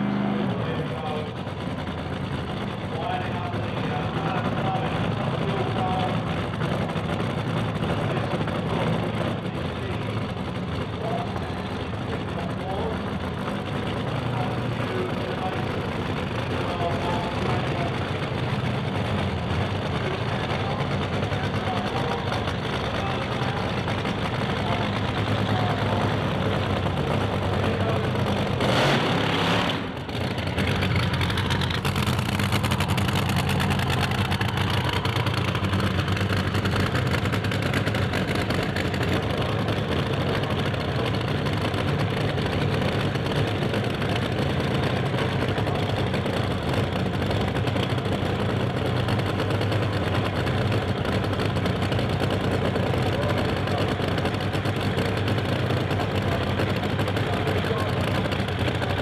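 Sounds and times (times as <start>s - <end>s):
dragster engine idling: 0.0s - 59.0s.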